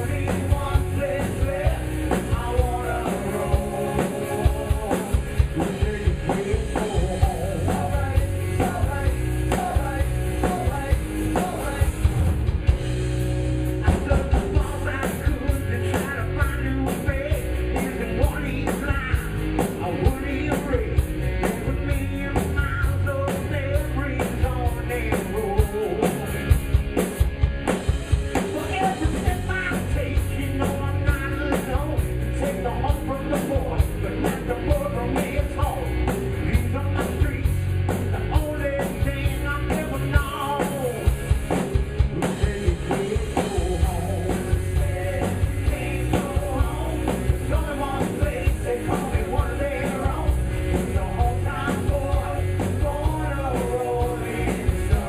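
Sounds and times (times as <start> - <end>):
person singing lead vocals: 0.0 - 12.1, 13.8 - 26.6, 28.0 - 55.0
rock band playing live: 0.0 - 55.0.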